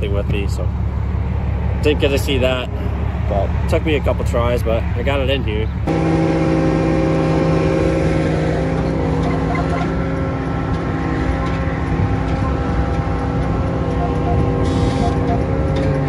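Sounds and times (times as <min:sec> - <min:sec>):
large diesel engine running: 0:00.0 - 0:16.0.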